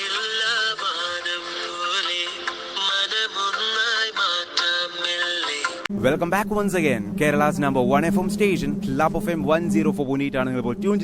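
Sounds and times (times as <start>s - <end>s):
radio jingle music: 0.0s - 11.0s.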